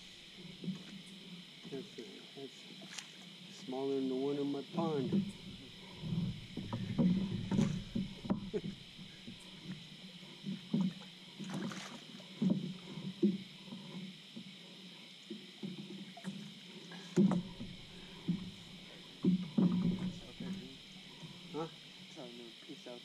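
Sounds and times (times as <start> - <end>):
knocks and clunks on a boat: 0.0 - 2.1, 2.7 - 22.2
light water movement: 0.0 - 23.0
steady high-pitched hiss: 0.0 - 23.0.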